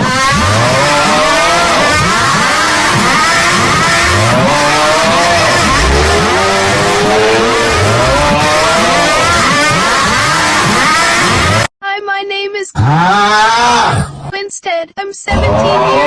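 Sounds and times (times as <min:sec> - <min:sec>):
car engine revving: 0:00.0 - 0:11.7, 0:12.8 - 0:14.2.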